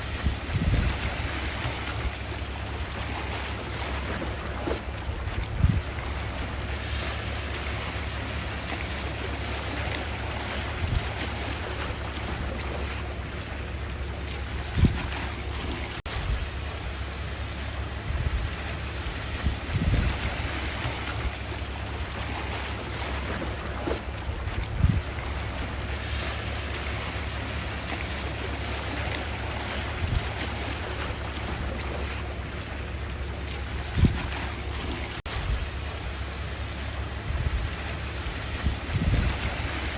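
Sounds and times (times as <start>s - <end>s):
sea waves washing: 0.0s - 39.9s
wind on microphone: 0.0s - 39.9s.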